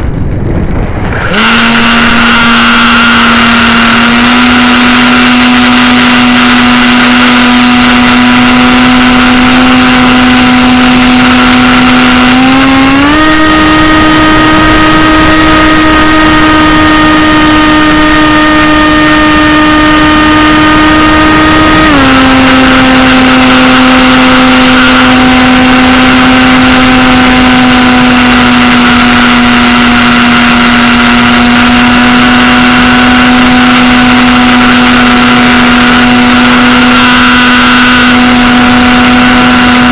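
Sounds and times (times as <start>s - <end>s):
electric motor and propeller whine: 0.0s - 39.9s
wind noise: 0.0s - 39.9s.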